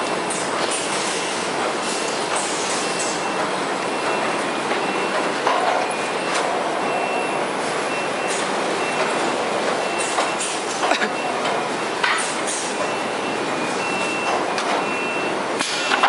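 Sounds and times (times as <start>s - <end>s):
conveyor machinery rattling: 0.0s - 16.0s.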